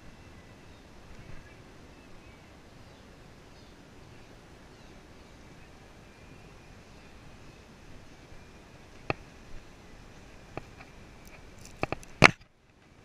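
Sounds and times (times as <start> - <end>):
faint bird chirps: 0.0 - 11.3
segway riding noise: 0.0 - 13.0.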